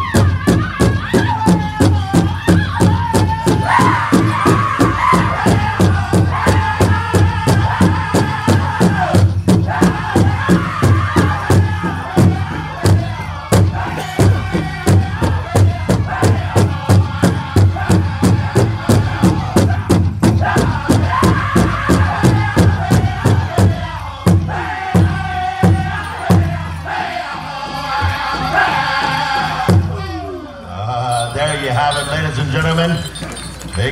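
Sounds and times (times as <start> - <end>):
large drum beating in unison: 0.0 - 27.2
group of voices singing: 0.0 - 33.9.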